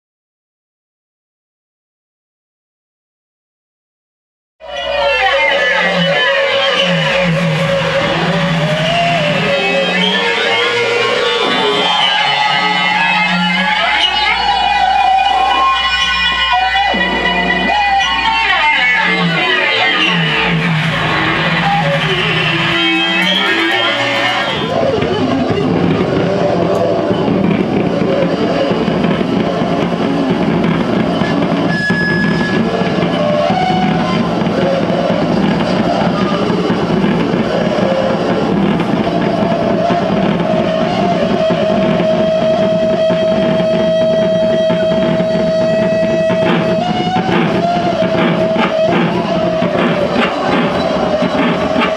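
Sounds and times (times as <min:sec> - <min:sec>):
harsh distorted noise music: 0:04.6 - 0:51.9
held tones with pitch glides: 0:04.6 - 0:51.9
steady low drones: 0:04.8 - 0:51.9.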